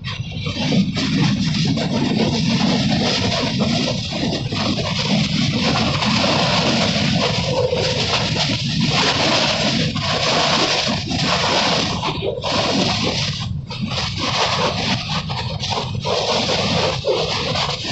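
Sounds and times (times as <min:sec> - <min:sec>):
train rushing noise: 0:00.0 - 0:17.9.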